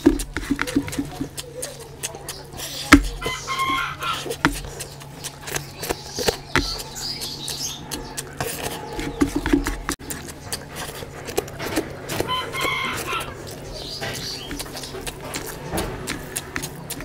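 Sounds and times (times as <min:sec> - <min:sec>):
squelching food mixed by fingers: 0:00.0 - 0:17.0
wet chewing and lip-smacking: 0:00.0 - 0:17.0.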